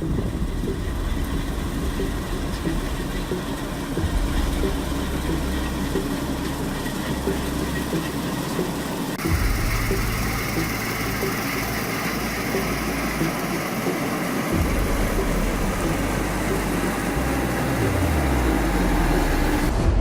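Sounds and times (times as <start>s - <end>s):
combine harvester engine drone: 0.0s - 19.7s
machinery clatter: 0.0s - 20.0s.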